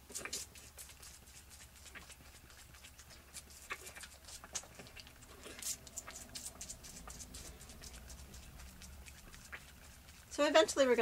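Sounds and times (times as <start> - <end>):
goat kid sucking from bottle: 0.0 - 11.0.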